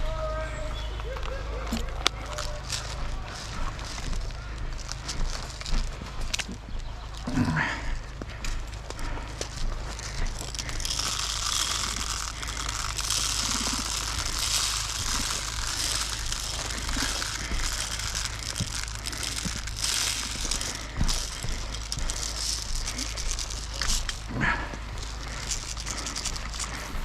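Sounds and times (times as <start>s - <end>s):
rustling of dry leaves: 0.0s - 27.0s.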